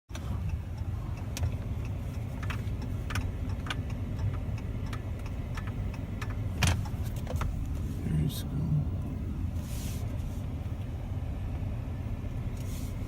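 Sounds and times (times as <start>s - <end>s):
road and engine rumble in car: 0.1s - 13.0s.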